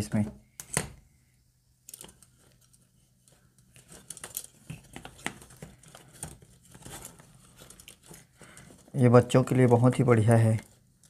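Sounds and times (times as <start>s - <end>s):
plastic clicks and rustles of wires: 1.8s - 11.0s.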